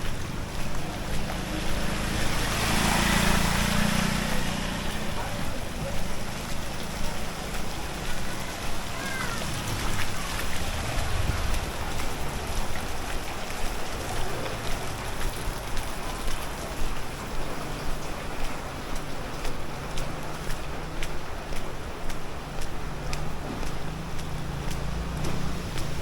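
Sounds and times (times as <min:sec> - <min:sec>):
rain pattering on street: 0:00.0 - 0:26.0
vehicle engines humming: 0:00.0 - 0:26.0.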